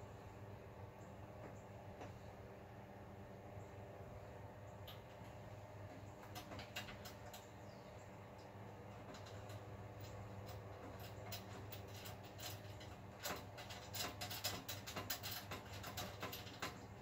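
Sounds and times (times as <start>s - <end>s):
steady low hum: 0.0s - 17.0s
cables clicking and rattling on metal: 1.1s - 2.6s, 4.6s - 17.0s.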